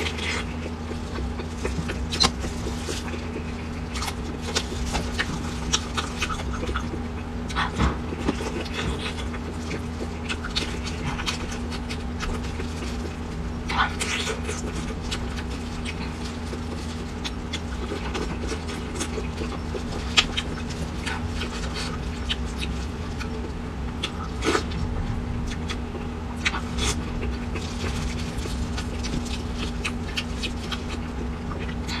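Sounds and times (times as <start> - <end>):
chewing and mouth smacking: 0.0 - 24.8, 25.5 - 32.0
steady low hum: 0.0 - 32.0.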